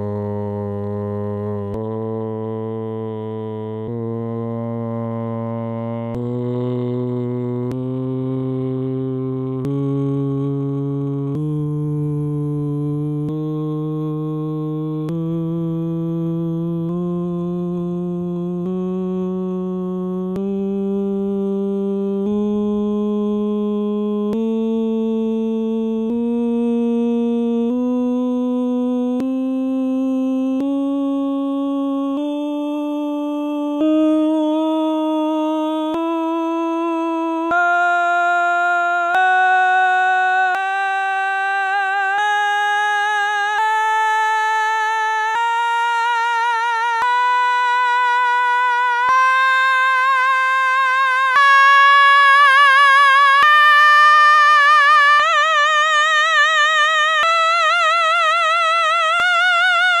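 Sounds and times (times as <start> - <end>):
man singing a scale: 0.0 - 57.5.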